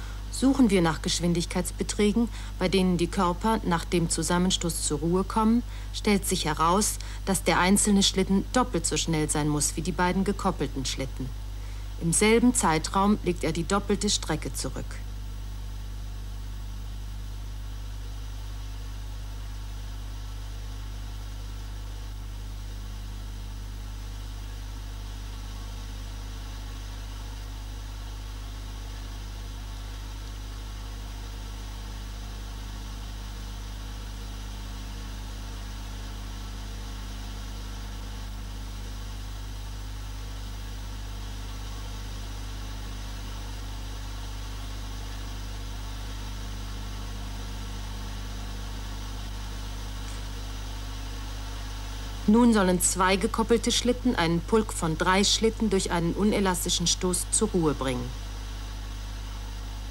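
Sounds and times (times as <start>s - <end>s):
faint hiss: 0.0s - 59.9s
low electrical hum: 0.0s - 59.9s.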